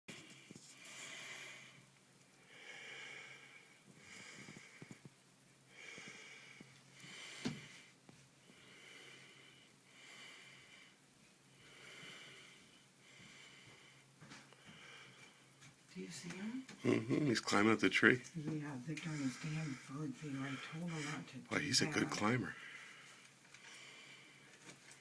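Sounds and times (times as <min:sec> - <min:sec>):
soft breathing: 0:00.1 - 0:15.8, 0:18.7 - 0:25.0.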